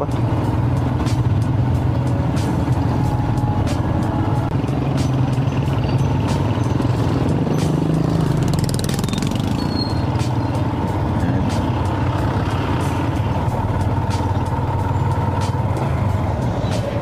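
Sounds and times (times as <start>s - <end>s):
motorcycle engine running: 0.0s - 17.0s
surrounding motorbike engines: 0.0s - 17.0s.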